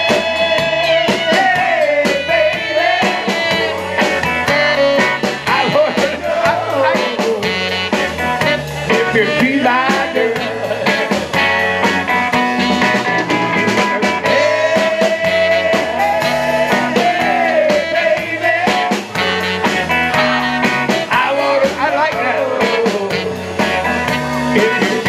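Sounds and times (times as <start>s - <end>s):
guitar lead bending notes: 0.0s - 25.0s
rock band playing: 0.0s - 25.0s.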